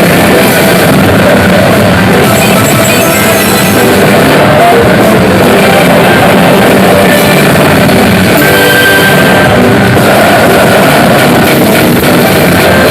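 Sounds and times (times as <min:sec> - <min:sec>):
rock music with guitar and drums: 0:00.0 - 0:12.9.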